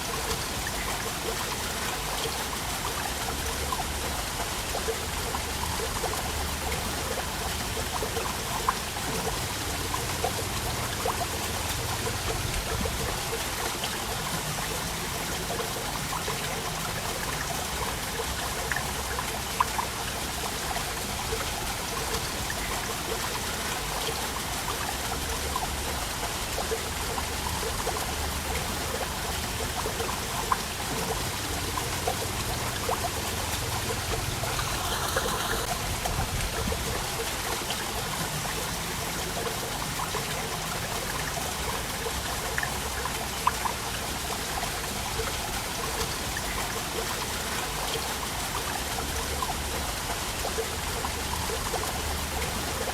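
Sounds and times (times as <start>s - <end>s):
water splashes and drips: 0.0s - 52.9s
waterfall rushing: 0.0s - 52.9s.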